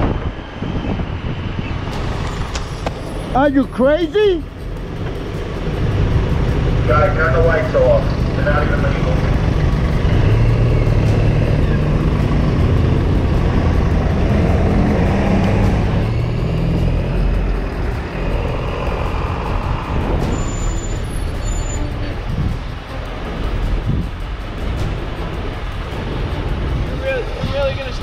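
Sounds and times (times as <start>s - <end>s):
passing traffic: 0.0s - 28.0s
wind and road noise: 0.0s - 28.0s.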